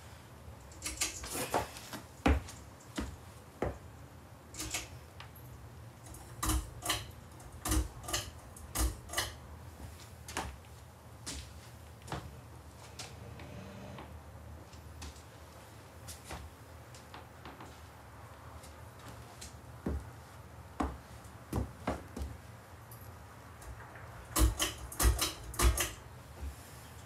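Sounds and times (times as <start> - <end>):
faint fan hum: 0.0 - 27.0.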